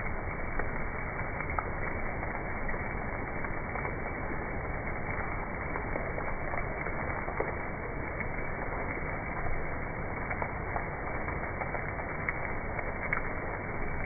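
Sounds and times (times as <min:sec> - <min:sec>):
crackling hiss with pops: 0:00.0 - 0:14.0.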